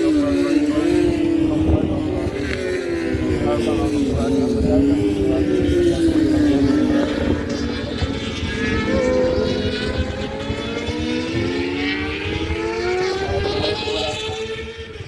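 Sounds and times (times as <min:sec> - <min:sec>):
motorcycle engines accelerating: 0:00.0 - 0:15.0.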